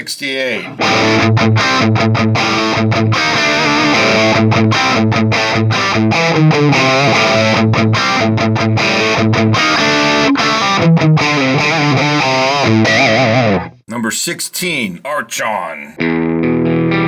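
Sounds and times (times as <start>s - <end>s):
electric guitar riff: 0.0s - 13.8s, 16.0s - 17.0s.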